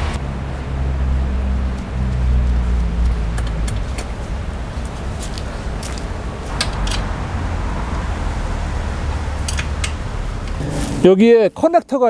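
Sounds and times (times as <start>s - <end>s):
vehicle engine rumble: 0.0s - 11.3s.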